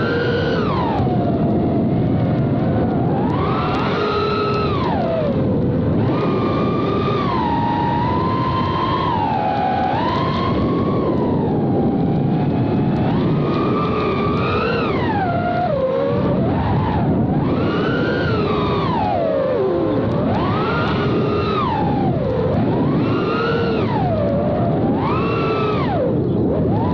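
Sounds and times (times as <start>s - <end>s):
drone motors whining: 0.0s - 26.9s.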